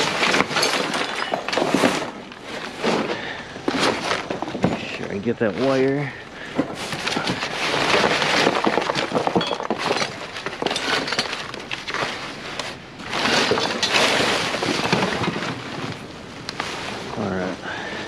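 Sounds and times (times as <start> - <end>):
debris clattering in dumpster: 0.0 - 18.0.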